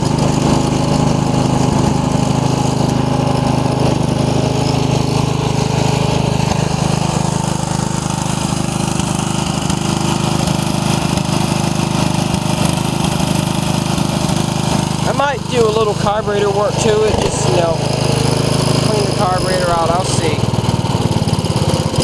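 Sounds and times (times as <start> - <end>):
riding mower engine running: 0.0 - 22.0.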